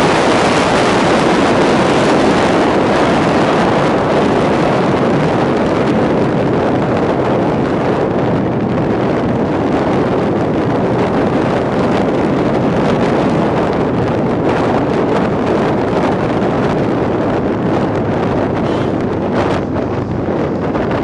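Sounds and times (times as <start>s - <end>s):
vehicle and road noise: 0.0s - 21.0s
wind buffeting microphone: 0.0s - 21.0s.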